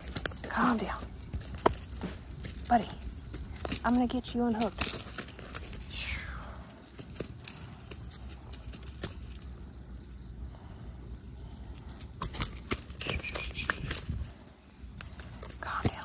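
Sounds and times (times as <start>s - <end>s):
pliers clinking on fishing hooks: 0.0s - 10.2s, 11.1s - 16.0s.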